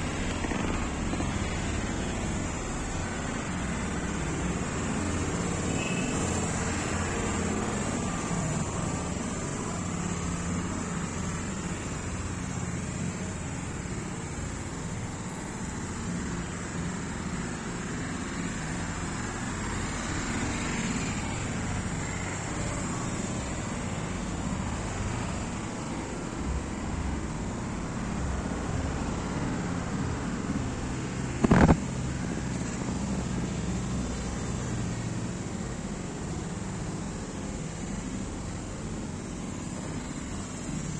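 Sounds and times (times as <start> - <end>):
road traffic hum: 0.0 - 40.9.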